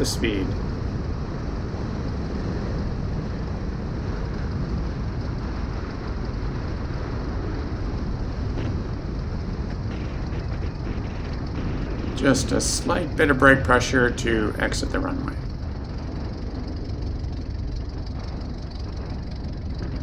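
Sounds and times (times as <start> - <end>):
light aircraft rolling on runway: 0.0 - 20.0.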